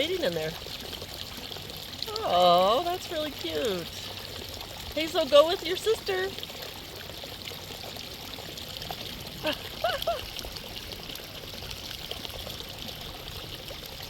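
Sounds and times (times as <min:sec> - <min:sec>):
flowing water rushing and trickling: 0:00.0 - 0:14.0.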